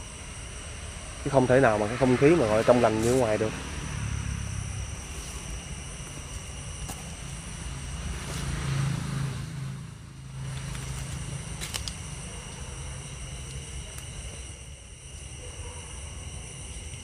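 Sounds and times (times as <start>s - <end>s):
vehicle engine humming: 0.0s - 15.4s.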